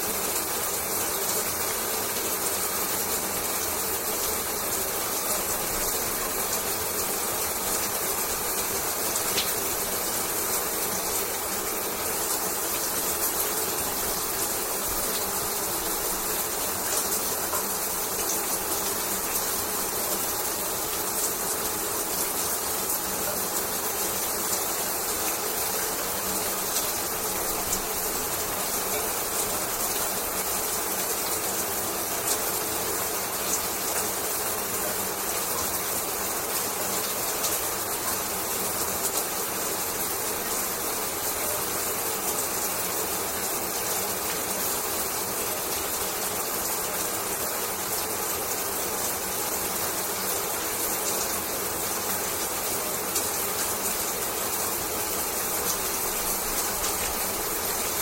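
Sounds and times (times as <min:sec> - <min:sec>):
shower water running: 0:00.1 - 0:58.0.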